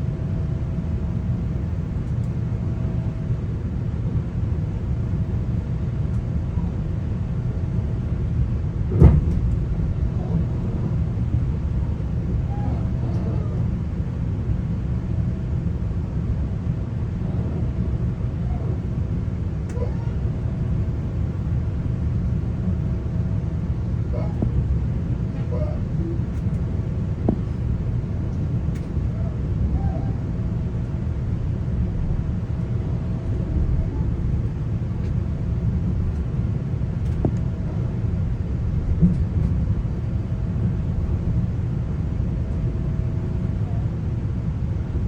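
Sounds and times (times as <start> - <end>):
faint steady hum: 0.0 - 45.0
train coach rumble: 0.0 - 45.0.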